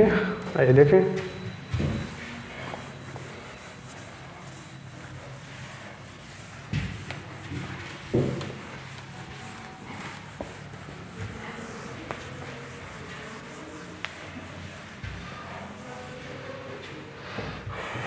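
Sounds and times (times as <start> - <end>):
duster rubbing whiteboard: 1.6 - 17.8.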